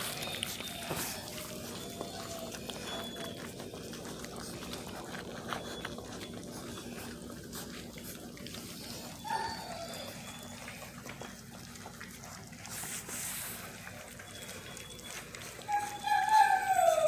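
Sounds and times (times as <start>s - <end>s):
puppies slurping and chewing: 0.0s - 17.0s
puppy whimper: 0.0s - 17.0s.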